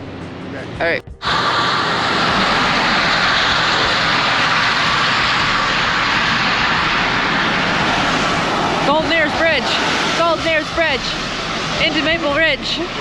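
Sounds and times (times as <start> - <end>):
bicycle road noise: 1.2 - 13.0
wind rushing: 1.2 - 13.0.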